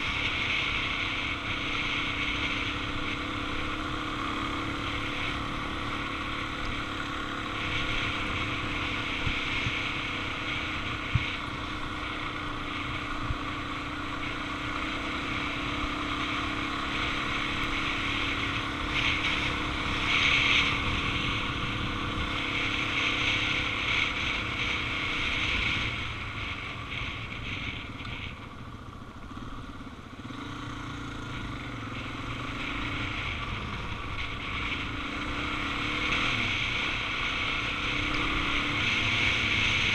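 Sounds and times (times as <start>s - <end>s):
wind rushing over microphone: 0.0s - 30.4s, 31.1s - 39.9s
motorcycle engine running: 0.0s - 39.9s.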